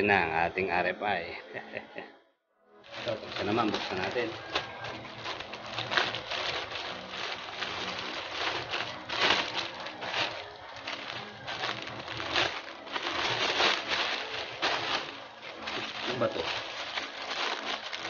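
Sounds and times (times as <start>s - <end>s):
plastic pouch crinkling: 2.9s - 18.0s.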